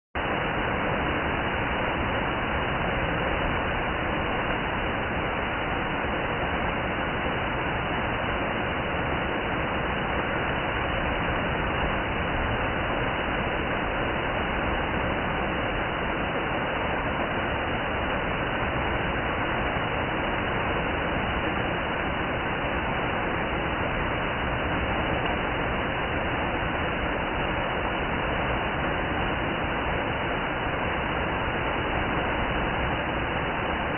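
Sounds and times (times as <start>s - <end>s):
waterfall rushing: 0.3s - 33.9s.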